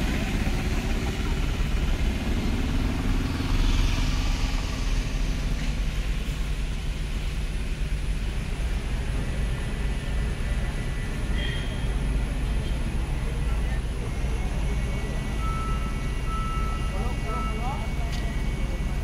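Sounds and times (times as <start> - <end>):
motor vehicles rumbling: 0.0 - 19.0.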